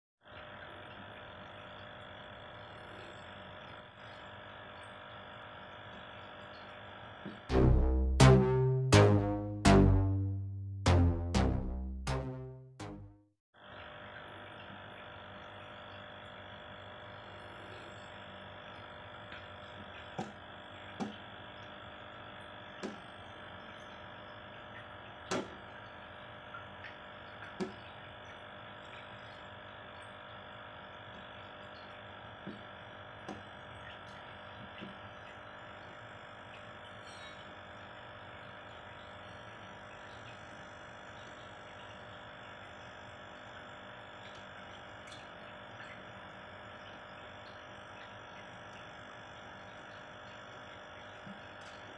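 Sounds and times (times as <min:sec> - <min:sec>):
electrical hum: 0:00.2 - 0:51.9.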